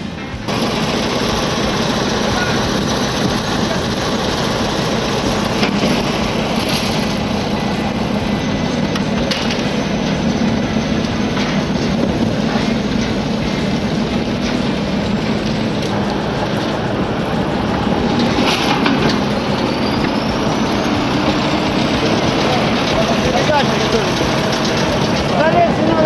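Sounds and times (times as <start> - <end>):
heavy engine running: 0.0 - 26.0
loud rushing noise: 0.0 - 26.0.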